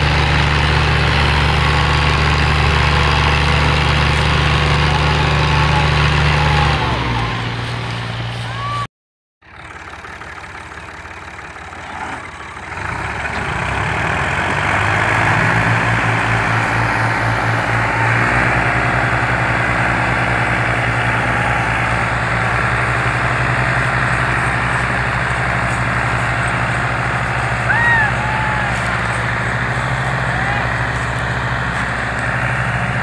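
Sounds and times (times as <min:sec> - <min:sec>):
tractor diesel engines under load: 0:00.0 - 0:33.0.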